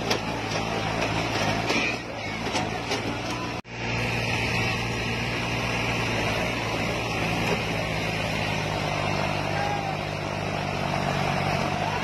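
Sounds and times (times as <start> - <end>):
diesel tractor engines running: 0.0 - 12.0.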